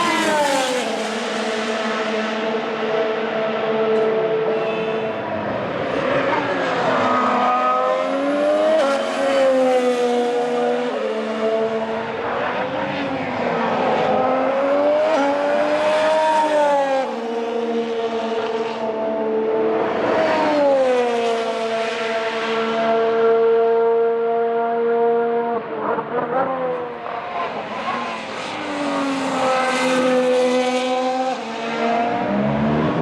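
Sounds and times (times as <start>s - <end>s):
race car engine at high revs: 0.0s - 33.0s.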